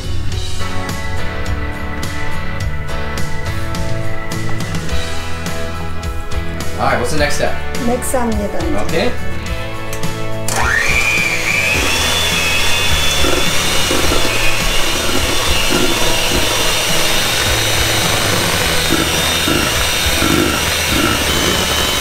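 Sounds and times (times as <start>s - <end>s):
electric hand mixer whining: 0.0s - 7.4s, 9.2s - 22.0s.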